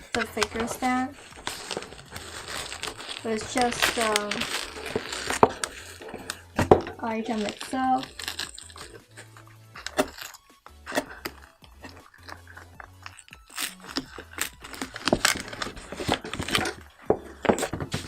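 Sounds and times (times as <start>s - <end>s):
plastic packaging crinkling: 0.0s - 18.0s
quiet background music: 0.0s - 18.0s.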